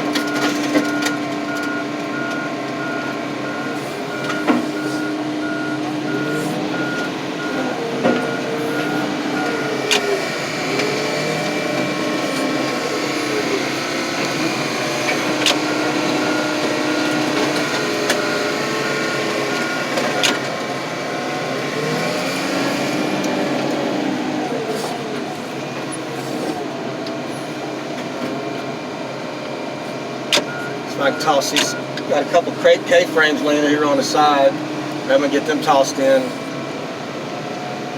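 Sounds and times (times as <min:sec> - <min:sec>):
heavy machinery drone and whine: 0:00.0 - 0:37.9.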